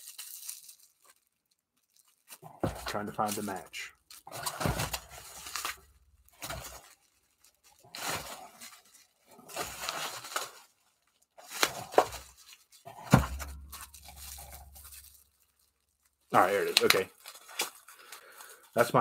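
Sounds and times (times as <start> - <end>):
bubble wrap and plastic crinkling: 0.0 - 19.0.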